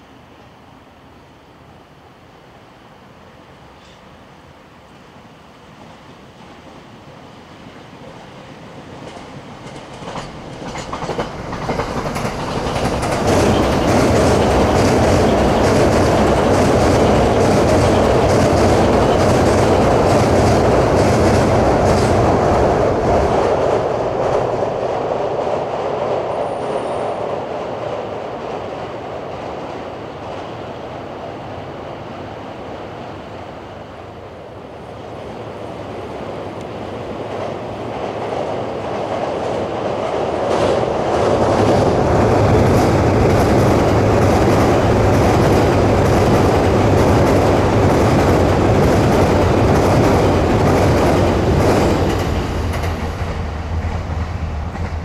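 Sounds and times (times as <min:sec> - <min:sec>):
trains crossing steel bridge: 0:00.0 - 0:55.0.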